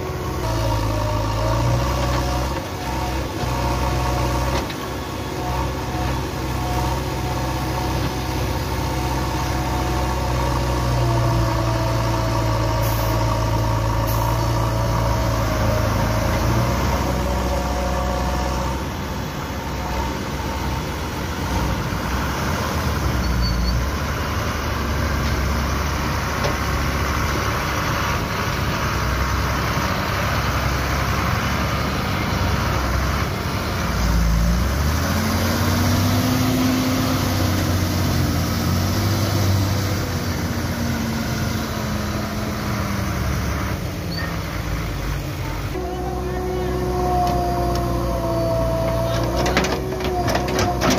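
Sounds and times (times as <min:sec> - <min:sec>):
truck diesel engine driving off: 0:00.0 - 0:50.9.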